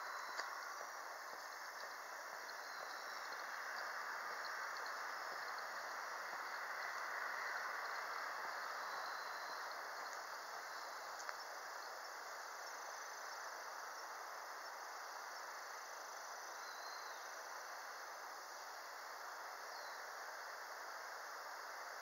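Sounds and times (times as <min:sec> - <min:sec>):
crickets calling: 0:00.0 - 0:22.0
outdoor background hiss: 0:00.0 - 0:22.0.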